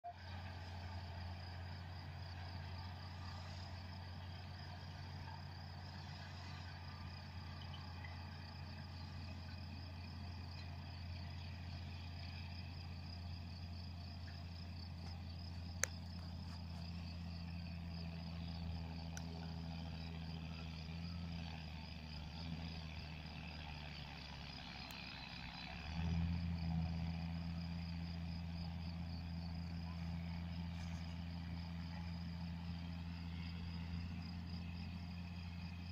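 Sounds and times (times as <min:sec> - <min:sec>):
tractor engine drone: 0:00.0 - 0:35.9.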